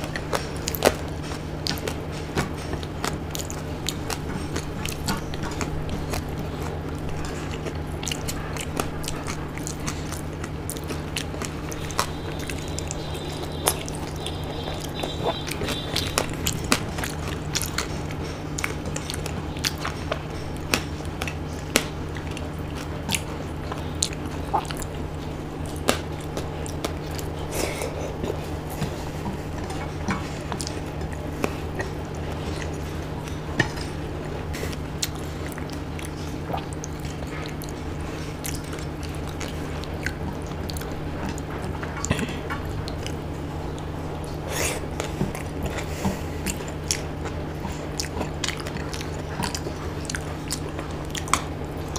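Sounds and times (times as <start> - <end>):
low hum: 0.0 - 51.9
person chewing with wet smacks: 0.0 - 51.9.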